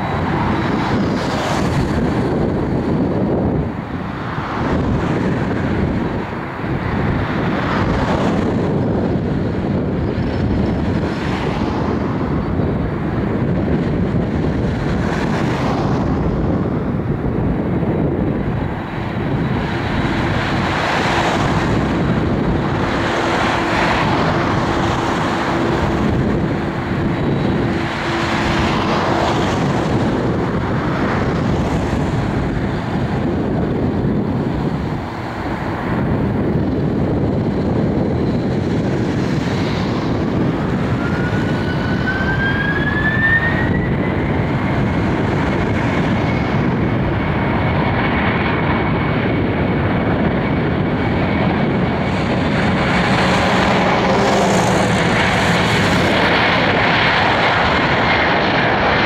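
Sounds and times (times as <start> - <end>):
jet engines rumbling: 0.0 - 59.0
wind buffeting microphone: 0.0 - 59.0.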